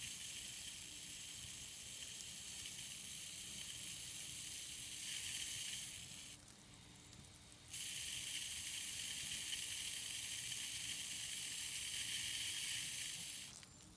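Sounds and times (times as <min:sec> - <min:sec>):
garden hose spraying water: 0:00.0 - 0:13.9.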